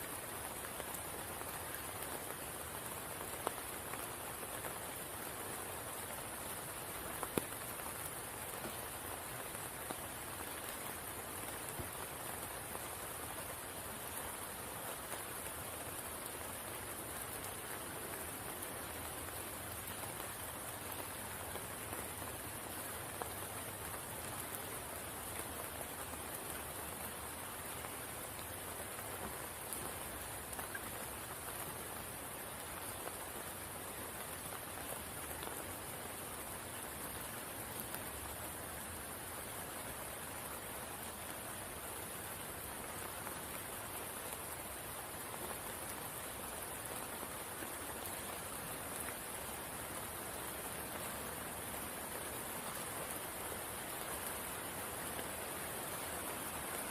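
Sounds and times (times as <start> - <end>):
rain falling on a pool: 0.0 - 56.9.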